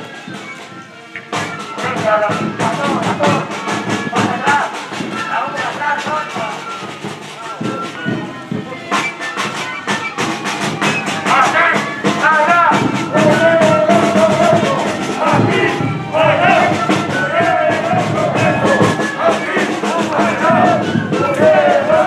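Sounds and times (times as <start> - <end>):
music with steady beat: 0.0 - 22.0.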